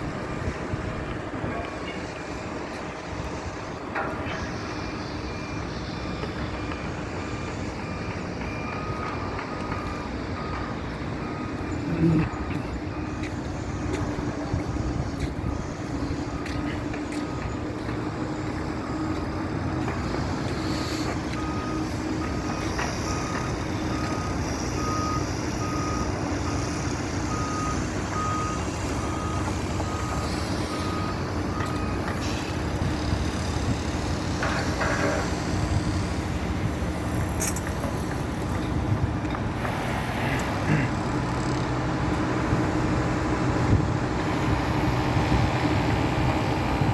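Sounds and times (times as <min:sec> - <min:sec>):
reversing alarm beeping: 0:00.0 - 0:46.9
vehicle engine humming: 0:00.0 - 0:46.9.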